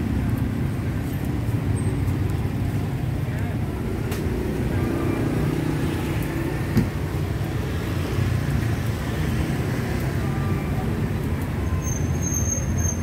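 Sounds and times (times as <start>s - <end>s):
motorbike and scooter traffic: 0.0s - 13.0s.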